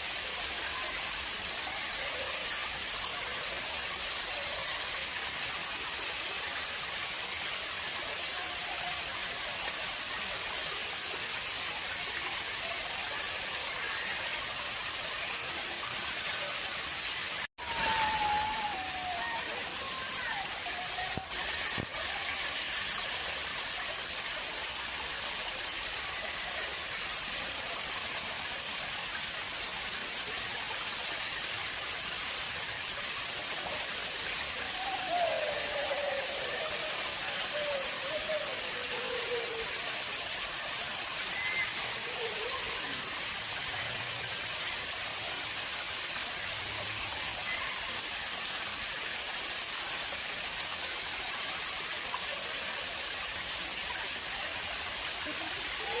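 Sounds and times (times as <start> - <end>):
water flowing and splashing: 0.0 - 56.0.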